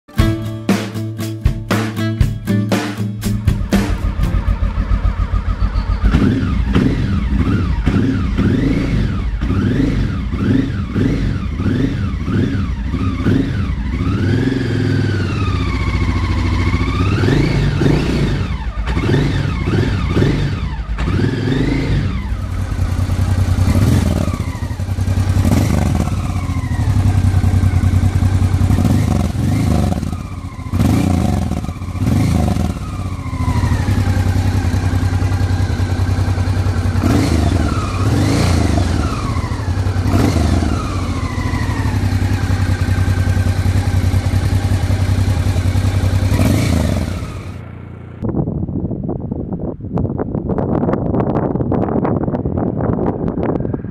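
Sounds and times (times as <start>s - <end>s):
motorcycle engine idling and revving: 0.0s - 53.9s.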